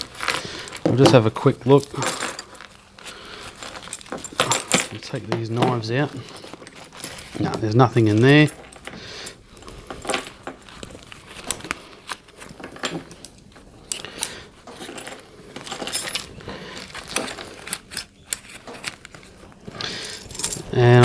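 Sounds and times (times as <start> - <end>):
pouch rustling: 0.0 - 21.0
small metal items clinking: 0.0 - 21.0.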